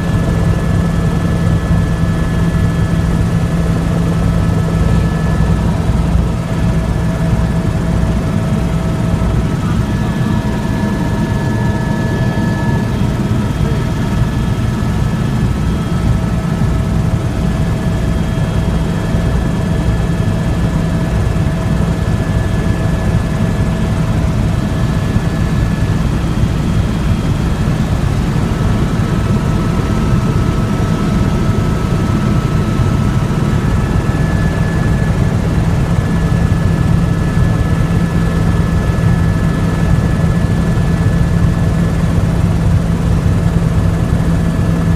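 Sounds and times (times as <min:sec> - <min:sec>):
faint steady whine: 0:00.0 - 0:44.9
helicopter rotor and engine noise: 0:00.0 - 0:44.9.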